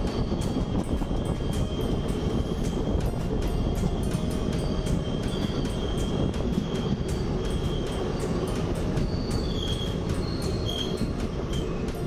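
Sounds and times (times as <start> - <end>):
high wheel squeals: 0.0 - 3.0, 3.6 - 12.0
train rumbling on track: 0.0 - 12.0.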